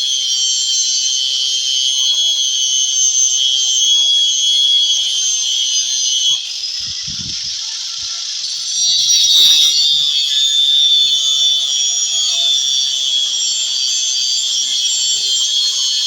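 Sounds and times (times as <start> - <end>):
electric grinder cutting wood: 0.0 - 16.0.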